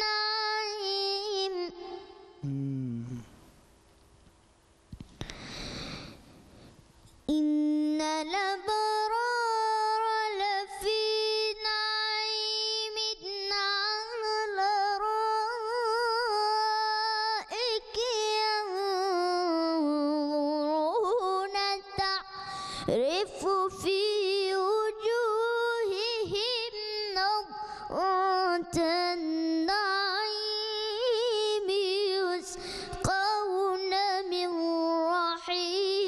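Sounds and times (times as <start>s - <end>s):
boy reciting melodically: 0.0s - 3.3s, 7.3s - 36.0s.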